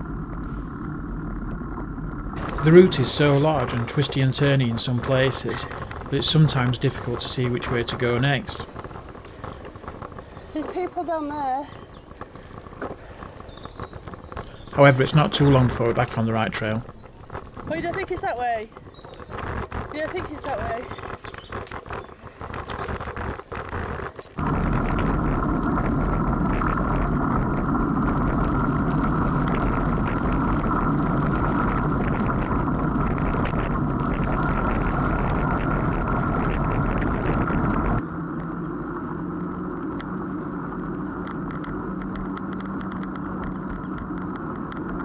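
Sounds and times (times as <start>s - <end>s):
bicycle tyres rolling on gravel: 0.0s - 45.0s
small rattles and clicks: 2.4s - 45.0s.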